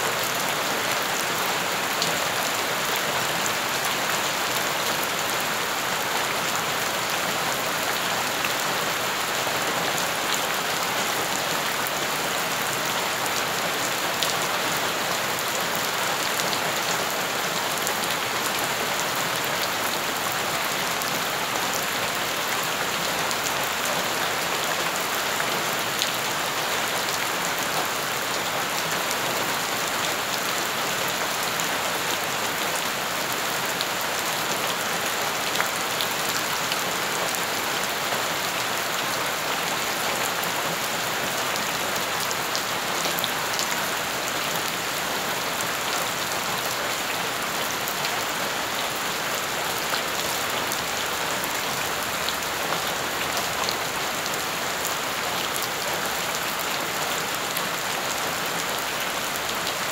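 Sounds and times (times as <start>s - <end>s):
rain falling on wet ground: 0.0s - 59.9s.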